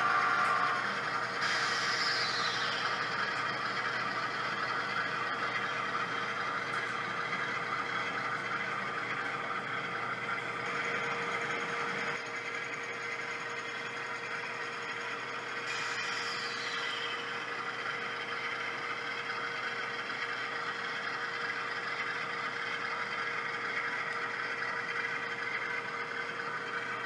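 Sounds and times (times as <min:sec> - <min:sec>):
model train diesel engine sound: 0:00.0 - 0:27.0
model train motors and wheels humming: 0:00.0 - 0:27.0.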